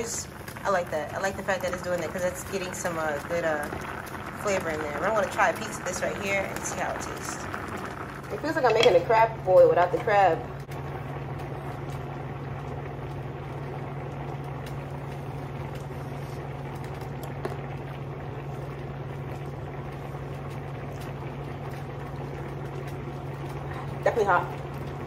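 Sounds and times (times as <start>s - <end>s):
low hum: 0.0s - 25.0s
stew bubbling at a boil: 0.0s - 25.0s.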